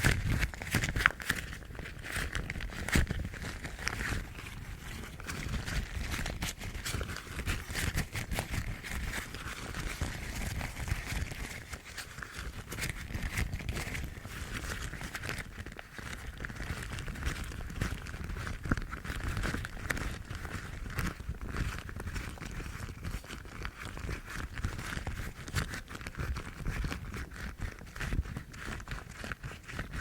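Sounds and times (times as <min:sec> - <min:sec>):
rubber gloves rubbing and crackling: 0:00.0 - 0:30.0.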